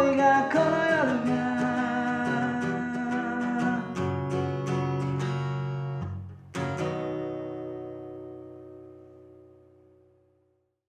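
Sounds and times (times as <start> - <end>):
acoustic guitar strumming: 0.0 - 10.2.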